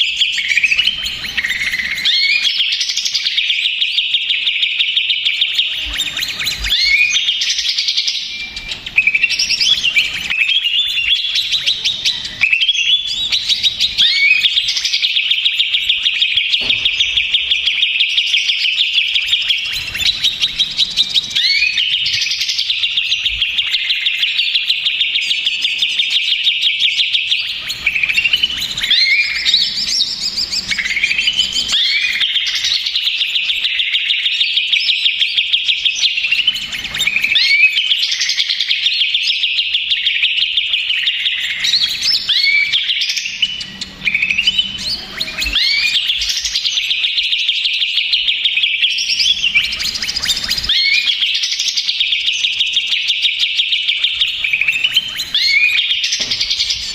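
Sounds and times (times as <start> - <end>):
bird singing chattering trills: 0.0 - 56.9.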